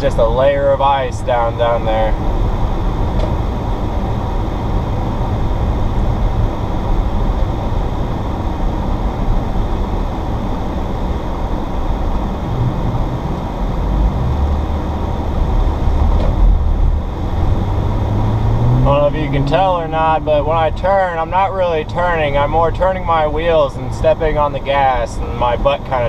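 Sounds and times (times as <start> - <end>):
car engine drone: 0.0 - 26.0
tyre and road noise: 0.0 - 26.0.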